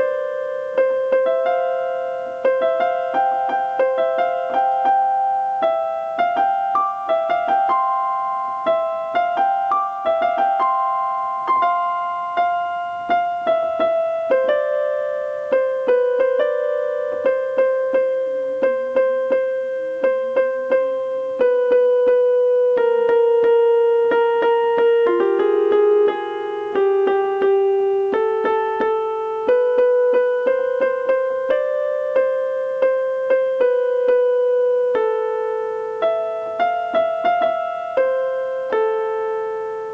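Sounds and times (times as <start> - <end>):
slow piano melody: 0.0 - 39.9.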